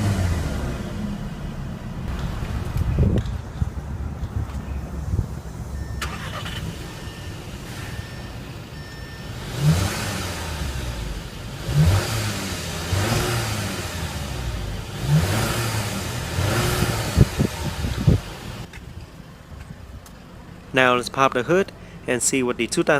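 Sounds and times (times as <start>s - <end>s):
car engine idling and revving: 0.0s - 20.8s.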